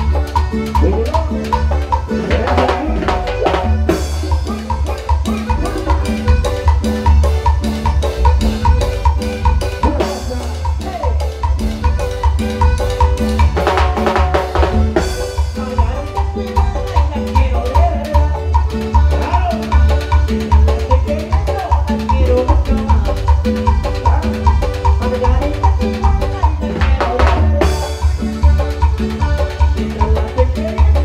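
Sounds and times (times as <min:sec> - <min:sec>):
drums and bass beat: 0:00.0 - 0:31.0
live dance band music: 0:00.0 - 0:31.0.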